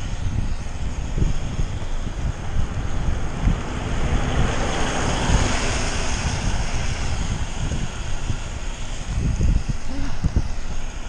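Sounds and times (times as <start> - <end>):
car passing on wet road: 0.0 - 11.0
wind rumbling on microphone: 0.0 - 11.0.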